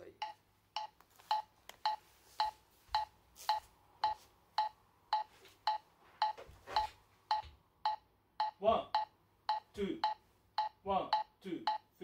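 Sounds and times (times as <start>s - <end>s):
metronome ticking: 0.0s - 6.4s, 7.3s - 12.0s.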